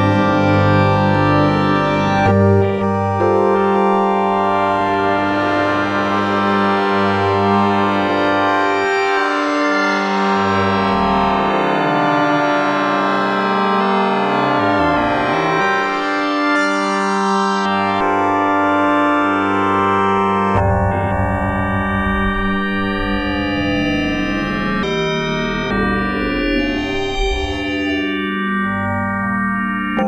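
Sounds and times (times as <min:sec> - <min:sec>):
synthesizer sustained chord sweeping: 0:00.0 - 0:29.2.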